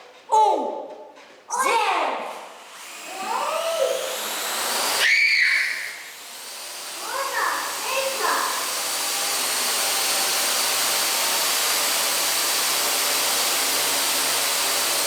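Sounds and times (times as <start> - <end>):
toy helicopter rotor whirring: 2.6 - 15.0.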